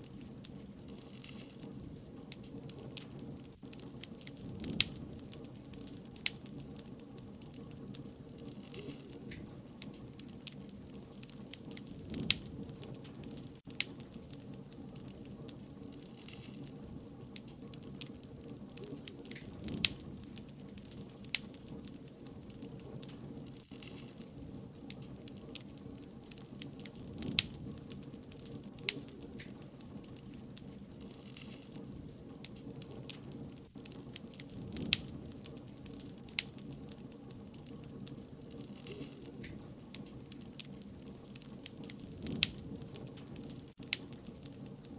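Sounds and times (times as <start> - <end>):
bonfire low rumble: 0.0 - 44.9
fire crackles and pops: 0.0 - 44.9.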